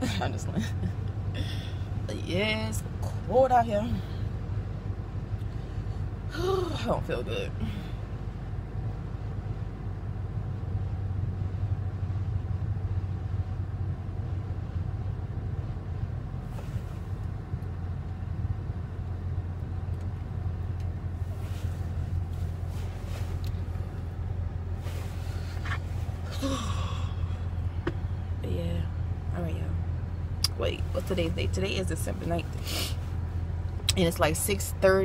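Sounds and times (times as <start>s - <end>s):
car engine hum inside cabin: 0.0s - 35.0s.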